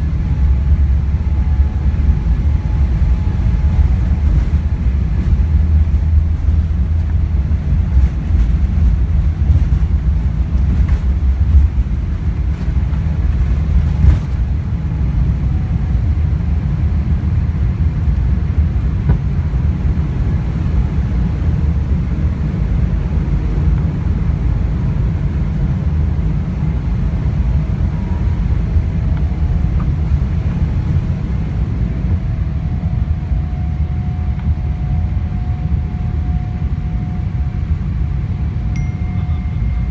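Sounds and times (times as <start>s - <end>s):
faint steady whine: 0.0s - 39.9s
jet engine low rumble: 0.0s - 39.9s.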